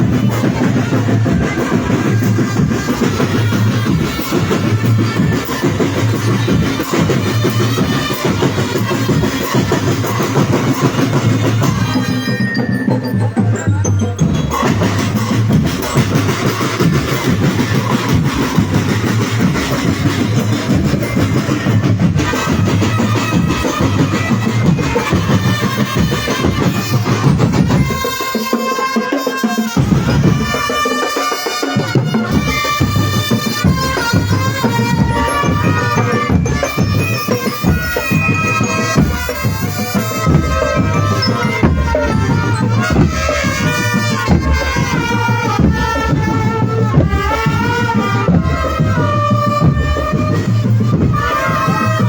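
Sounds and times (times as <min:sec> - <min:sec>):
drum band playing melody: 0:00.0 - 0:52.0.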